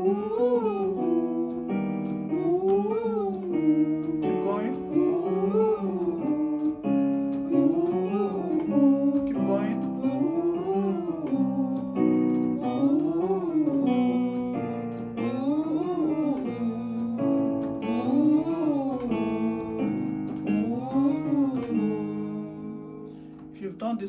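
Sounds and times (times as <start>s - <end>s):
guitar accompaniment: 0.0s - 24.0s.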